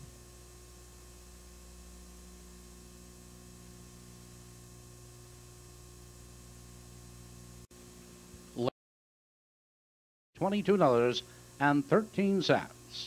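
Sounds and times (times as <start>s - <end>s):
faint electrical hum: 0.0s - 8.7s, 10.4s - 13.0s.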